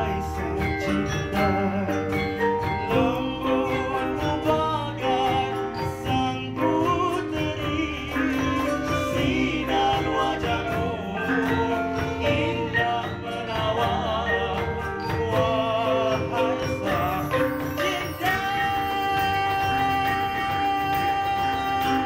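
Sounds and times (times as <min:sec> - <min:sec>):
gamelan gong-chimes ringing: 0:00.0 - 0:22.0
men singing into microphones: 0:00.0 - 0:22.0.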